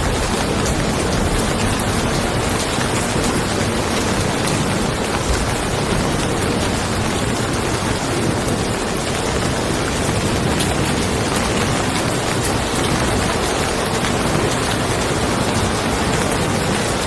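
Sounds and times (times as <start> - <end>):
distant thunder rumble: 0.0 - 17.0
rain falling on a car: 0.0 - 17.0.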